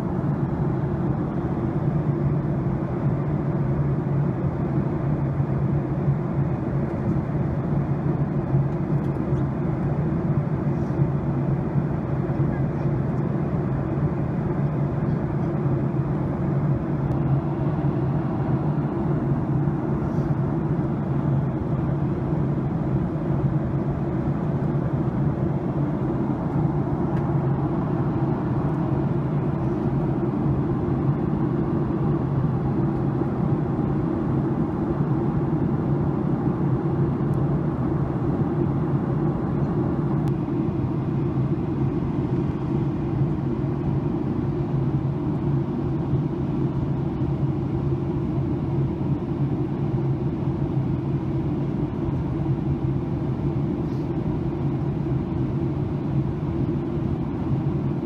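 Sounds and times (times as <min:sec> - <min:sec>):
airflow rush in cabin: 0:00.0 - 0:58.0
low jet engine drone: 0:00.0 - 0:58.0.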